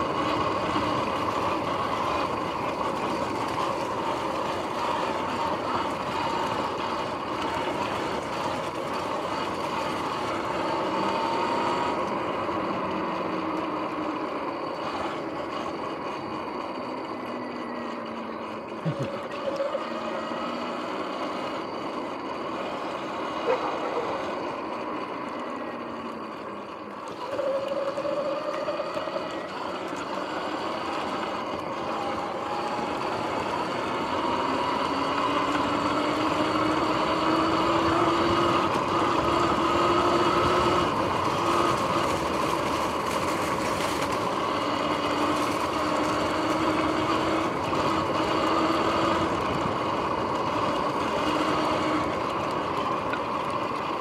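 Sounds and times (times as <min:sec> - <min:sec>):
electric motor whine: 0:00.0 - 0:54.0.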